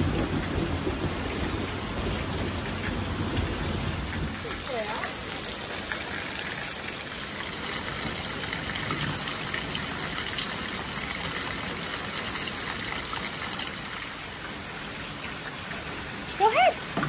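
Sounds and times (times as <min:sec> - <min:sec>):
rain falling steadily: 0:00.0 - 0:17.0.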